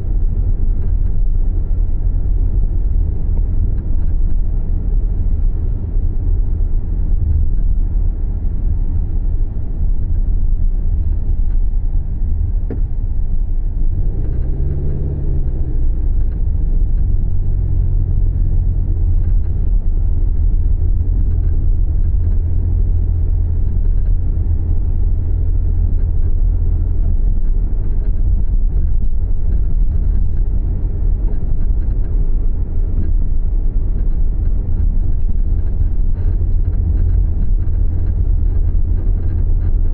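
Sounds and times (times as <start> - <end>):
car driving low rumble: 0.0 - 39.9.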